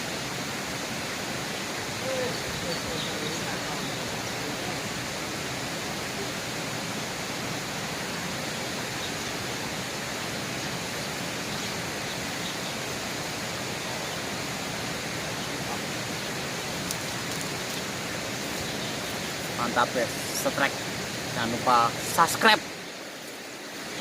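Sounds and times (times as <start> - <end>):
flowing river water rushing: 0.0 - 24.0.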